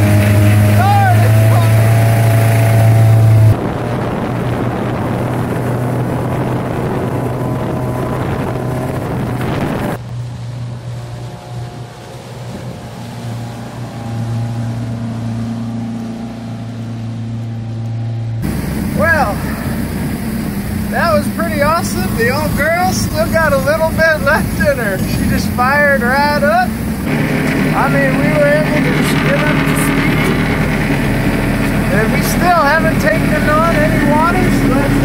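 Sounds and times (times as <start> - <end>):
wind on microphone: 0.0 - 15.7, 18.4 - 35.0
boat engine running: 0.0 - 35.0
water rushing past hull: 0.0 - 35.0.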